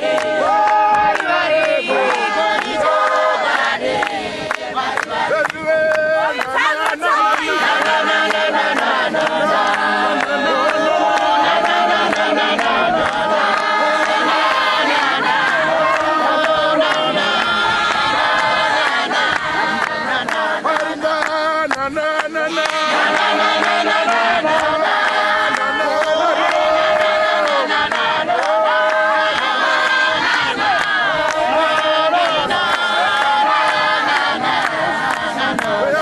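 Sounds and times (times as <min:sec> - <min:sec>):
congregation singing a hymn: 0:00.0 - 0:36.0.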